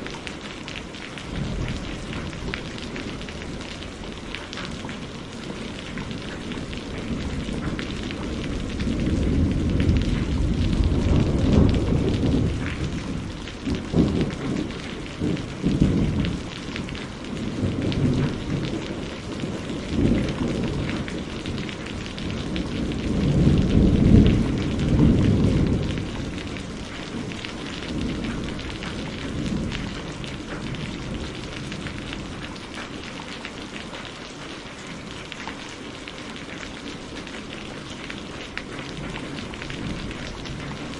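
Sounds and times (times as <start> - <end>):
steady rain falling: 0.0 - 40.9
rolling thunder: 1.2 - 32.5, 38.8 - 40.9.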